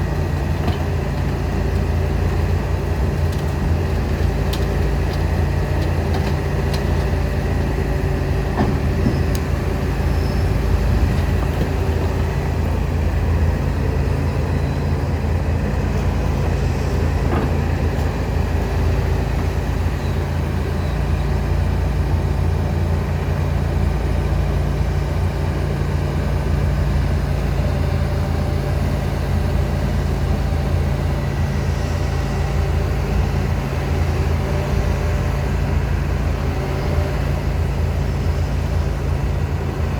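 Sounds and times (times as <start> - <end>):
excavator diesel engine droning: 0.0 - 39.9.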